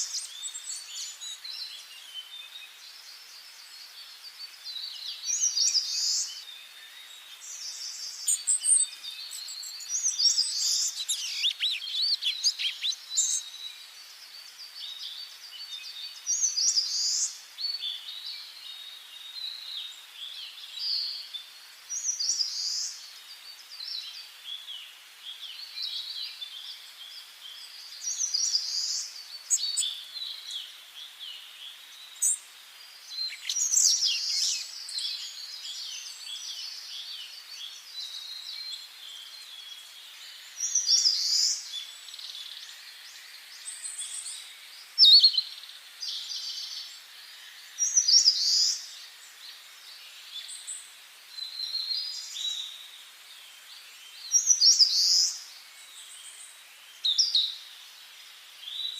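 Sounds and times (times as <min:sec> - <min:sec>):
faint steady hiss: 0:00.0 - 0:58.9
songbirds singing and calling: 0:00.0 - 0:58.9.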